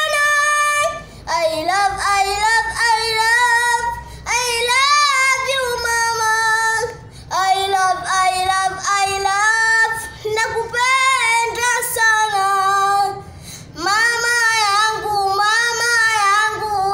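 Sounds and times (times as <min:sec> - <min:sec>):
boy singing unaccompanied: 0:00.0 - 0:16.9.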